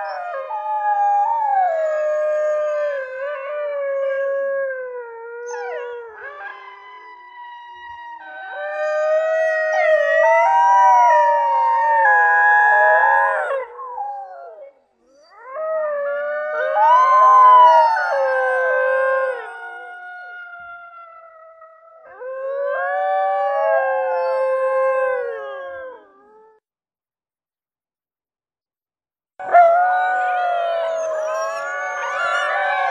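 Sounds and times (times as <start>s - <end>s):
wolves howling: 0.0s - 26.6s, 29.4s - 32.9s.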